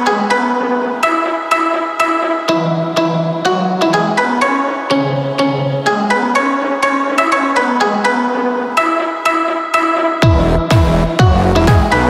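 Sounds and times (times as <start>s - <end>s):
melody over clicking beat: 0.0s - 12.0s.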